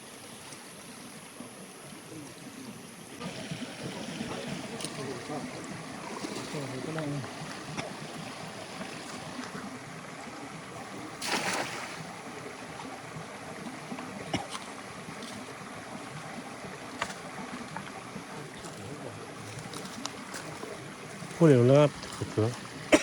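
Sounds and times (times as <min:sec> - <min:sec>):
stream water running: 0:00.0 - 0:23.0
water splash: 0:03.2 - 0:09.8, 0:10.7 - 0:23.0.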